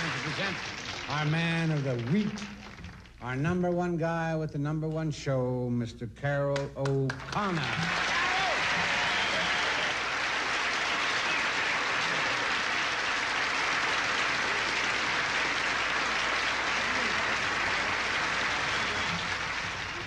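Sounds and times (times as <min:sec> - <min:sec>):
audience applauding: 0:00.0 - 0:03.3, 0:06.8 - 0:20.0.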